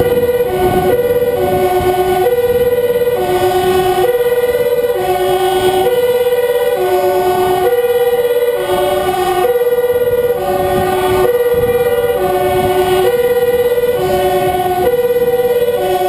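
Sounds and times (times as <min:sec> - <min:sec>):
engine and road noise: 0:00.0 - 0:16.0
two-tone emergency sirens: 0:00.0 - 0:16.0.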